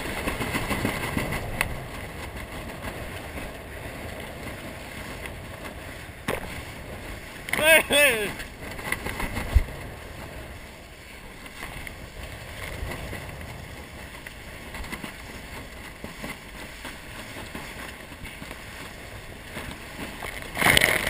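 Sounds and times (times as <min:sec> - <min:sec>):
water rushing along a boat hull: 0:00.0 - 0:21.0.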